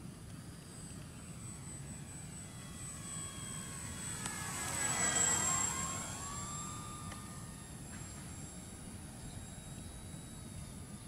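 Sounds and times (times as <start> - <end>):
model plane motor whining: 0.0 - 11.0.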